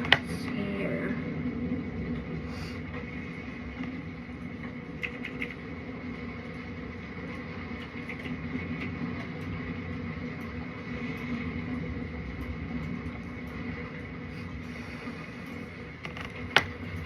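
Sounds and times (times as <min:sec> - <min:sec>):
low machine hum with whine: 0:00.0 - 0:17.0.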